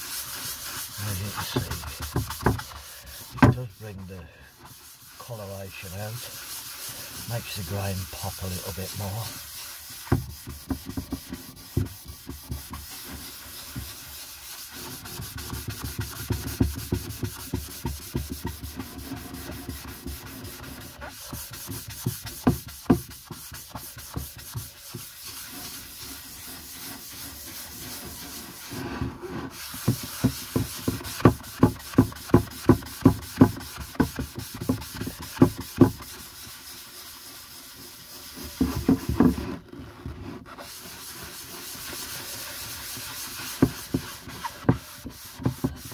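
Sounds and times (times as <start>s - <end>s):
pad rubbing wood: 0.0s - 45.9s.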